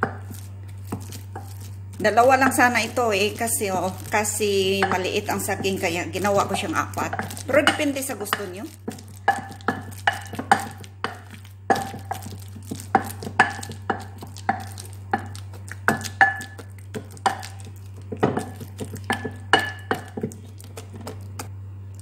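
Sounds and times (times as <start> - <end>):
wooden masher knocking pot: 0.0 - 21.5.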